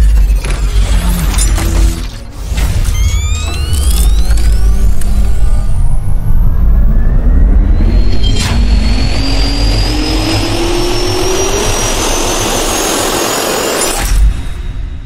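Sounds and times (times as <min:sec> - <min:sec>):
rising turbine whine: 0:01.0 - 0:15.0
loud rush of noise: 0:01.6 - 0:15.0.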